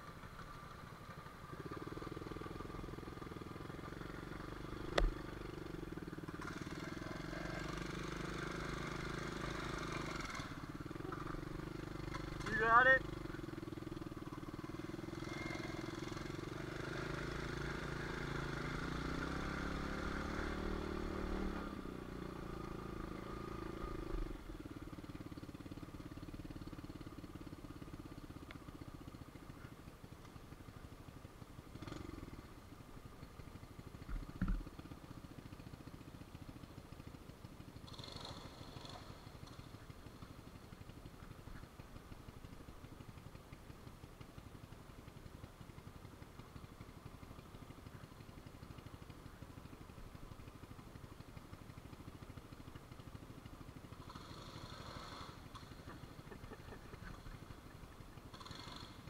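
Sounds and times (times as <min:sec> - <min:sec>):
pit bike engine running: 0:00.0 - 0:59.0.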